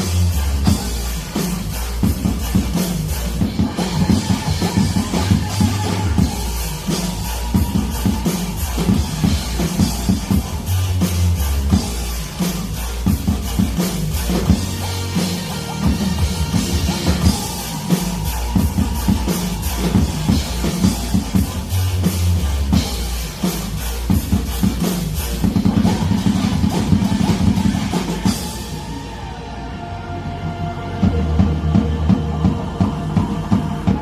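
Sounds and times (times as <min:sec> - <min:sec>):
drum kit playing: 0:00.0 - 0:29.8, 0:30.5 - 0:34.0
rock backing track: 0:00.0 - 0:34.0.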